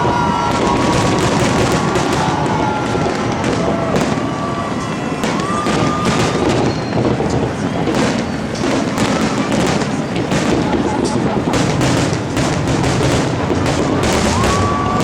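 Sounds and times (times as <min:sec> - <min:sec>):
fireworks bangs and crackles: 0:00.0 - 0:15.0
people's voices: 0:00.0 - 0:15.0.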